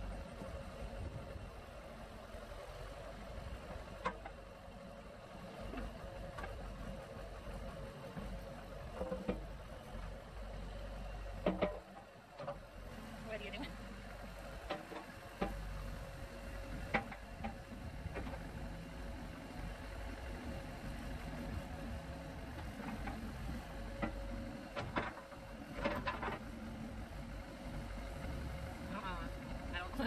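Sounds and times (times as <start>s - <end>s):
backhoe engine running: 0.0s - 30.0s.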